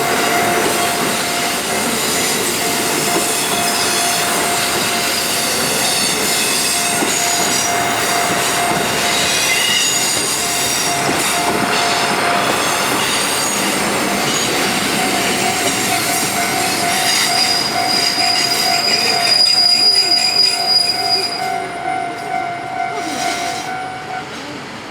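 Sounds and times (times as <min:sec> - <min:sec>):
level crossing bell ringing: 0:00.0 - 0:24.4
railcar wheels squealing: 0:00.0 - 0:24.9.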